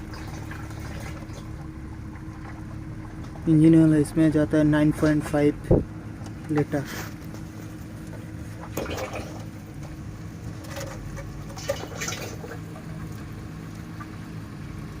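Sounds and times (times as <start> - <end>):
oil pouring into engine: 0.0 - 4.1, 6.2 - 15.0
steady low hum: 0.0 - 15.0.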